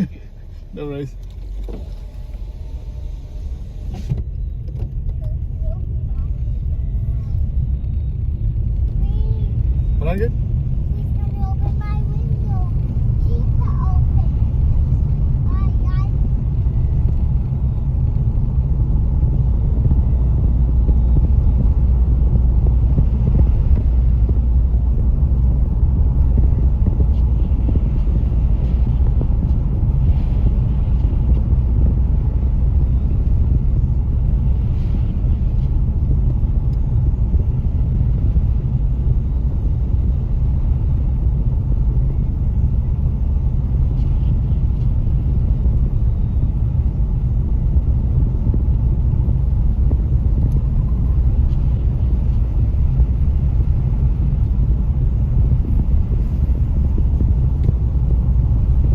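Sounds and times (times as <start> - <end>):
car interior engine rumble: 0.0 - 58.9.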